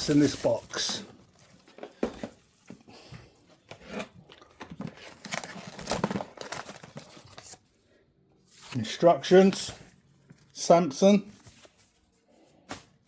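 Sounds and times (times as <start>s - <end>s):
paper and packaging rustling: 0.0s - 7.8s, 8.5s - 13.0s.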